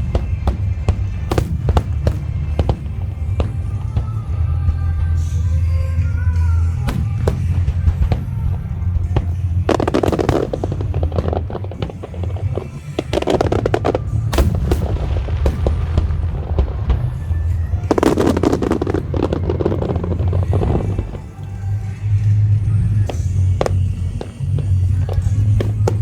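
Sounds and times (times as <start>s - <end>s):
fireworks bursting and crackling: 0.0s - 26.0s
low rumble: 0.0s - 26.0s
music playing: 0.0s - 26.0s.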